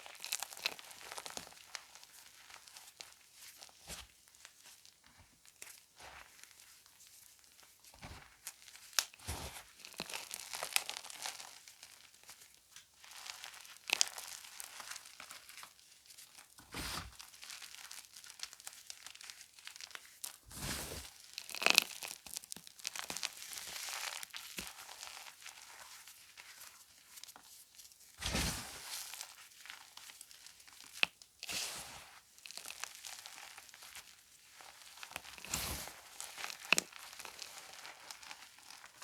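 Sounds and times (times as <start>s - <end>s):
chalk crunching and crackling: 0.0s - 39.0s.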